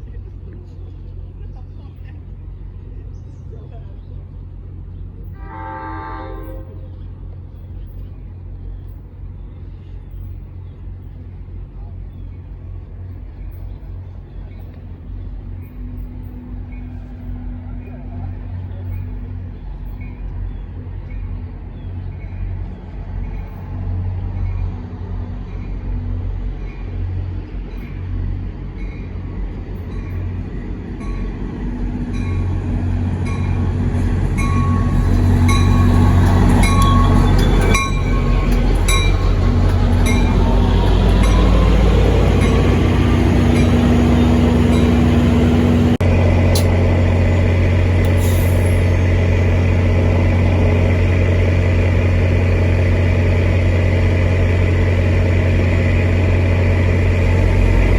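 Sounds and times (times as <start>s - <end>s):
locomotive engine drone: 0.0s - 57.9s.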